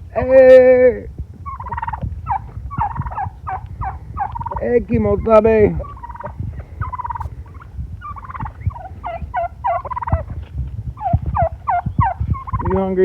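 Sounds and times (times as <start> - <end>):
turkeys gobbling: 1.3 - 12.8.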